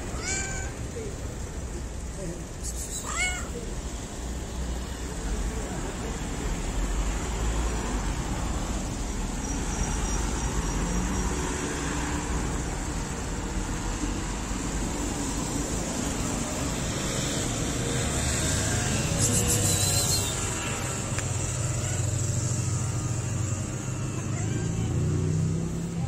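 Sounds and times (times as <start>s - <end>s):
low street rumble: 0.0s - 26.0s.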